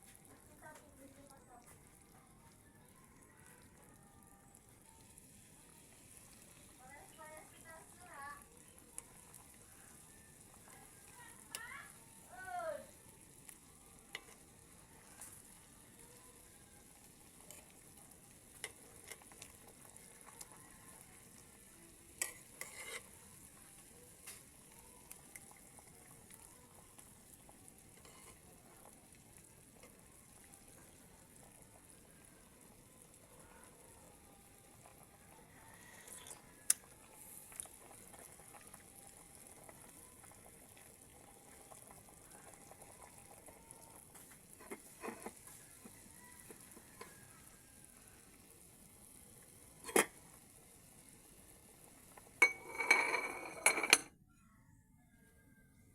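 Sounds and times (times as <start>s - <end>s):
food sizzling on stove: 0.0s - 54.1s.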